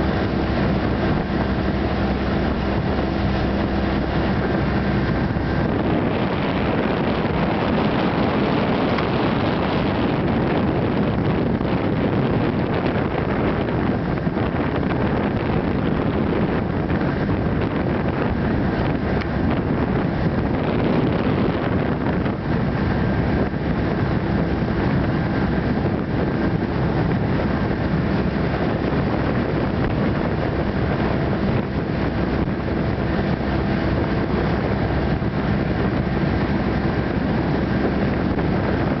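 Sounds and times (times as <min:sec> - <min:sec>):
motorboat engine at speed: 0:00.0 - 0:39.0
wind buffeting microphone: 0:00.0 - 0:39.0.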